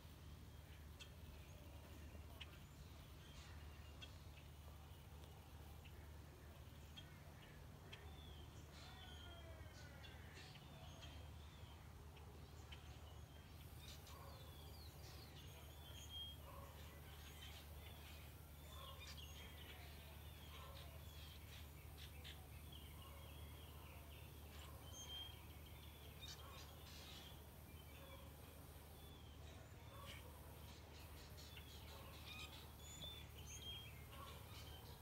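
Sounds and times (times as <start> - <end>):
faint birdsong chirps and trills: 0.0 - 35.0.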